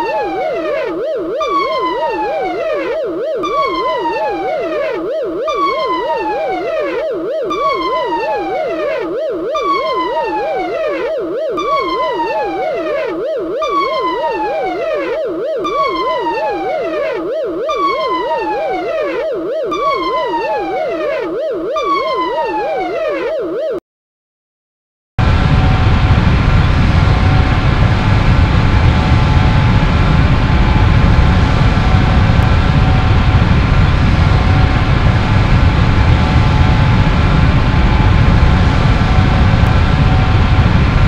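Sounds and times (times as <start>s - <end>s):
rapid warbling alarm tone: 0.0s - 23.8s, 25.4s - 41.0s.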